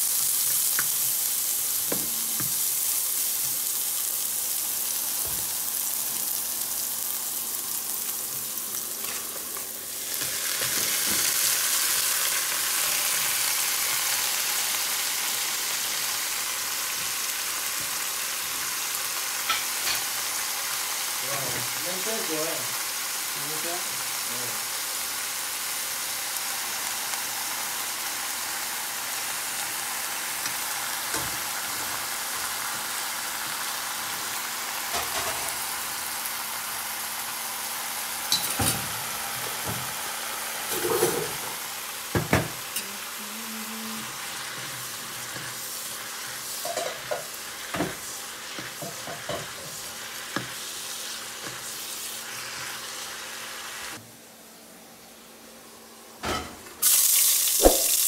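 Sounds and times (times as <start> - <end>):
greens sizzling in a pan: 0.0 - 58.0.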